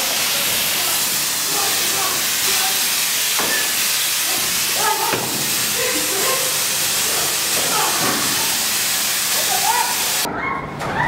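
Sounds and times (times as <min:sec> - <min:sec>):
faint voices: 0:00.0 - 0:03.2, 0:04.1 - 0:11.0
loud hiss: 0:00.0 - 0:10.3.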